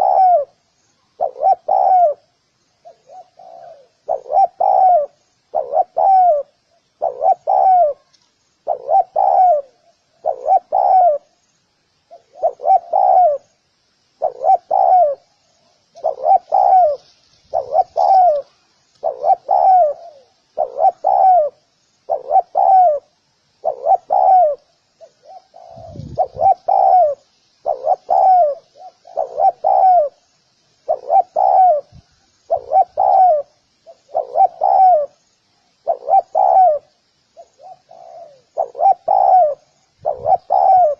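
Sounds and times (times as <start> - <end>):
dove cooing: 0.0 - 11.4, 12.1 - 13.6, 14.2 - 35.2, 35.8 - 40.9.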